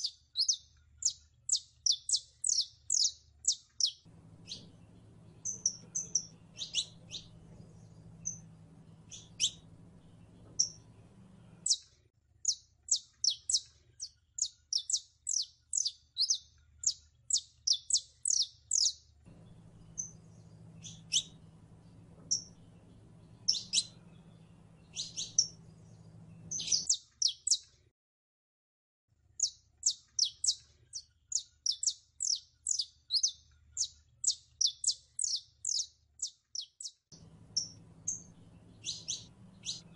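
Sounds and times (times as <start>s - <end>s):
finch singing: 0.0s - 27.7s, 29.4s - 39.9s.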